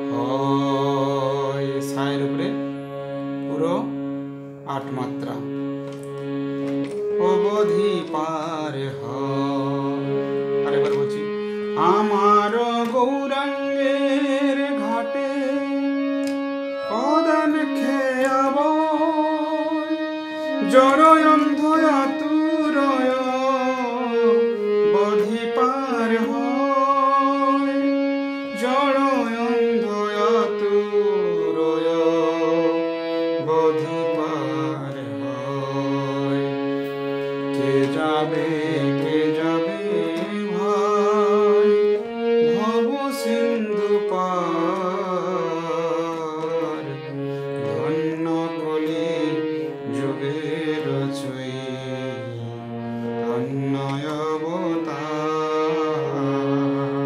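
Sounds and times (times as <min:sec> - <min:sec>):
harmonium melody: 0:00.0 - 0:57.0
person singing: 0:00.0 - 0:57.0.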